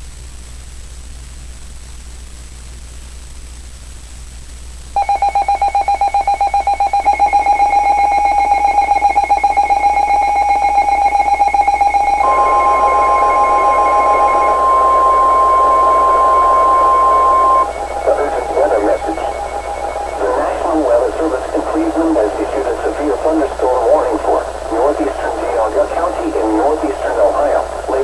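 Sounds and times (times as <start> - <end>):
rapidly pulsing electronic beep: 5.0 - 28.0
steady single-pitch alarm tone: 5.0 - 28.0.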